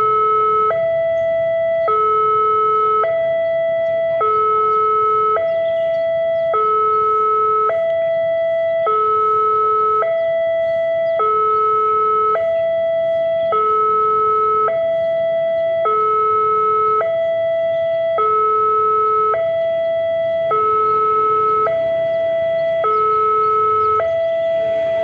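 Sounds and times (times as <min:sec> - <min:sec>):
two-tone crossing warning siren: 0:00.0 - 0:25.0.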